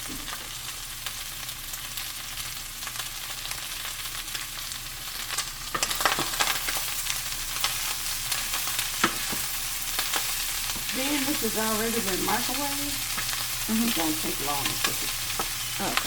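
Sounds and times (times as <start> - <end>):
corn sizzling in a pan: 0.0 - 16.0.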